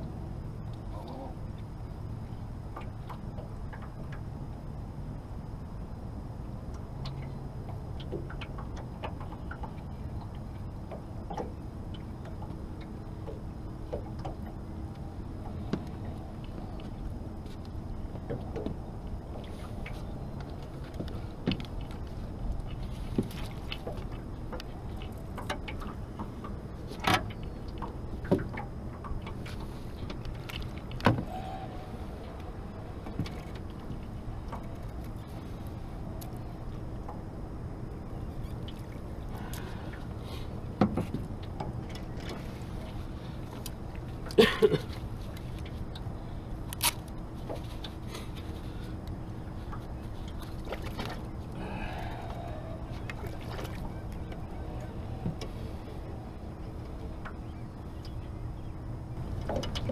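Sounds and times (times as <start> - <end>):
knocks and clicks against boat: 0.0 - 59.9
steady low hum: 0.0 - 59.9
steady low rumble: 0.0 - 59.9.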